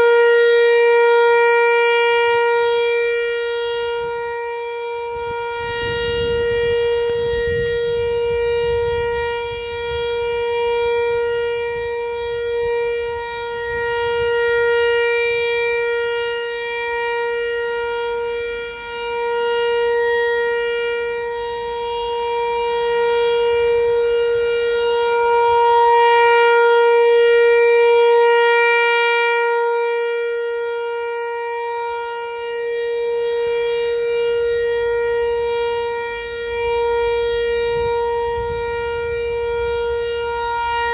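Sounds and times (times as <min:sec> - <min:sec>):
tornado warning siren: 0:00.0 - 0:40.9.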